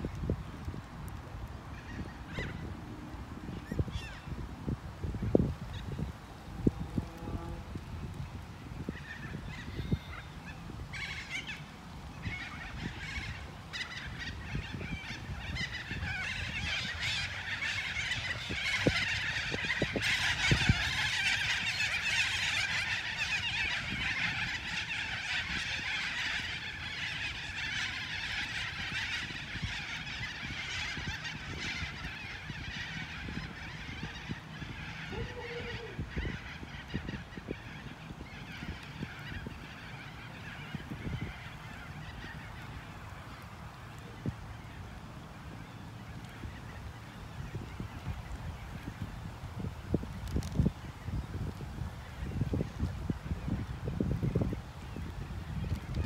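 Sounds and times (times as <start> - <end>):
chorus of birds chattering: 8.7 - 56.0.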